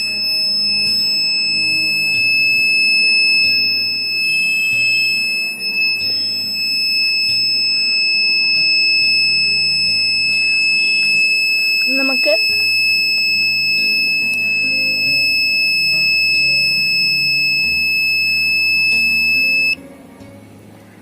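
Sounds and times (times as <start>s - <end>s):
fire alarm buzzer high-pitched tone: 0.0s - 19.8s.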